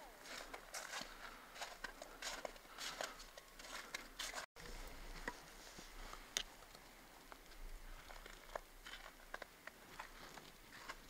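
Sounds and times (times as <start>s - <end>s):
footsteps crunching on snow: 0.0s - 6.4s, 7.8s - 11.0s.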